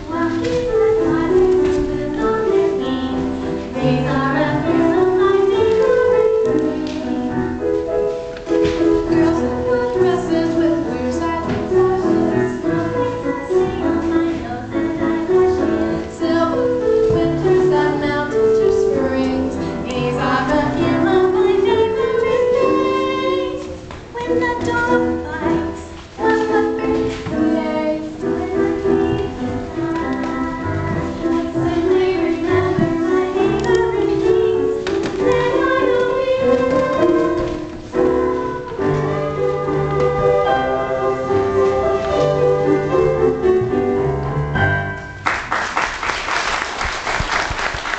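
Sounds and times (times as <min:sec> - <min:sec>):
young voices singing: 0:00.0 - 0:43.4
instrumental backing music: 0:00.0 - 0:45.6.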